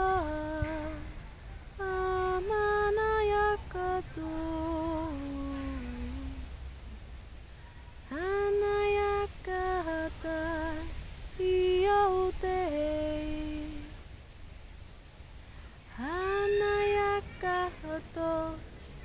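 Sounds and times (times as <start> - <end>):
woman singing wordless phrases: 0.0 - 6.5, 8.0 - 14.0, 15.9 - 18.8.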